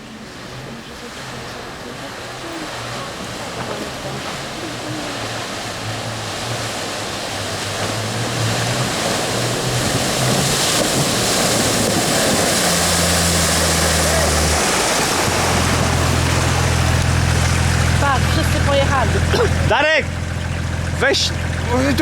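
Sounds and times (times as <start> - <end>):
off-road vehicle engine running: 0.0 - 22.0
water rushing and splashing: 0.0 - 22.0.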